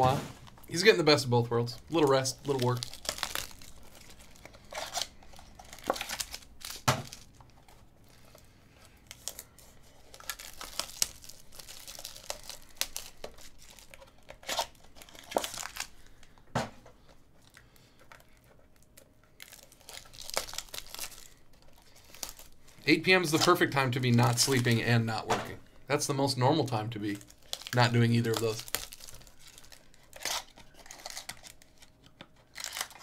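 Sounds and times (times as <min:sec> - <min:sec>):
foil wrappers crinkling and tearing: 0:00.0 - 0:16.4, 0:17.4 - 0:25.3, 0:26.0 - 0:33.0.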